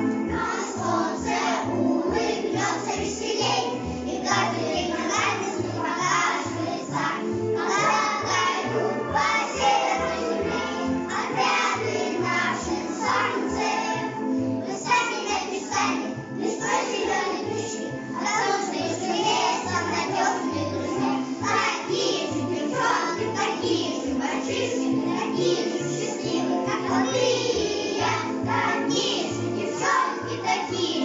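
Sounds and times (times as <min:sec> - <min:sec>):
children singing: 0:00.0 - 0:31.0.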